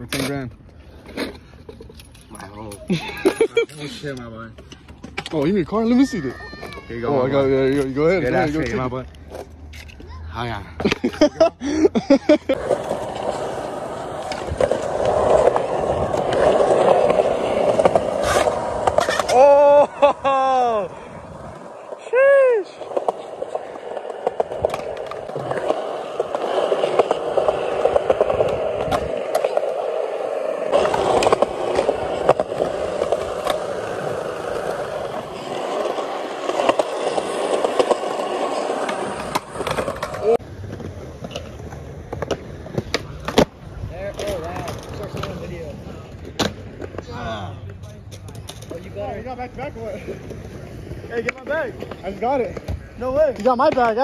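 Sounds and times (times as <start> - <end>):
skateboard wheels rolling on concrete: 0.0 - 54.0.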